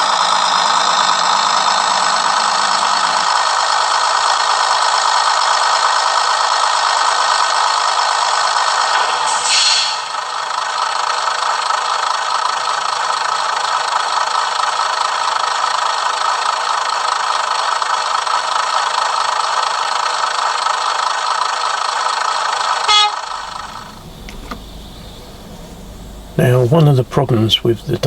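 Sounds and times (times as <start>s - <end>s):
diesel railcar engine running: 0.0s - 28.0s.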